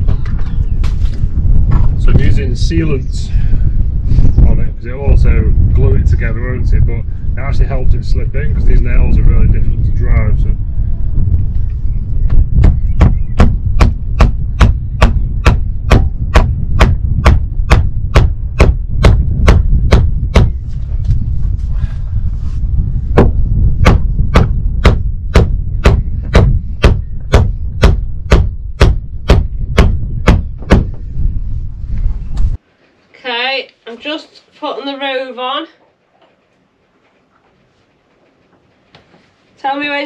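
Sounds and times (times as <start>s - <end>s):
wind rumble on microphone: 0.0s - 32.6s.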